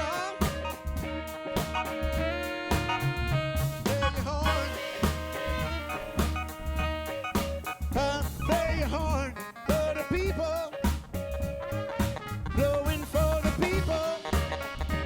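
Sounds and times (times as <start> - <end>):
live jazz soul band playing: 0.0 - 15.0.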